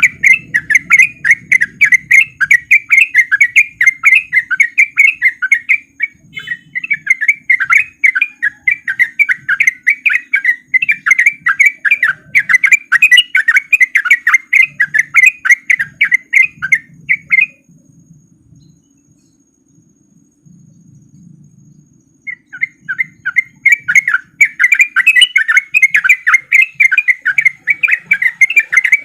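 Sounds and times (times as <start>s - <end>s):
bird chattering song: 0.0s - 29.0s.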